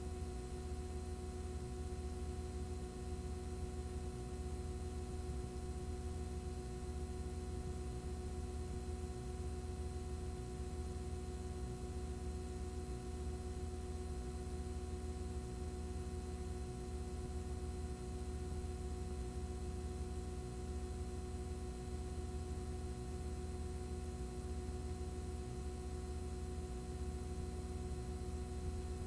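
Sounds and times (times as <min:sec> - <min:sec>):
electrical hum with whining tones: 0:00.0 - 0:29.0.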